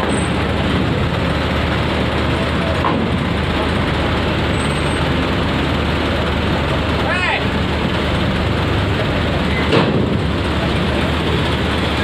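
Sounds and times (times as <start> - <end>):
diesel truck engine running: 0.0 - 12.0
rumble of heavy vehicles: 0.0 - 12.0.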